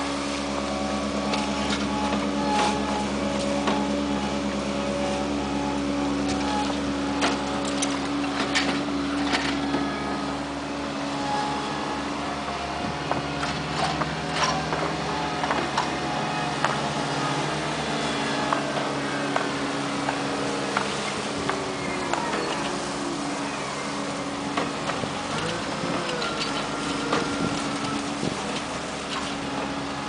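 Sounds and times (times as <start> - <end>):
machine engine running: 0.0 - 30.0.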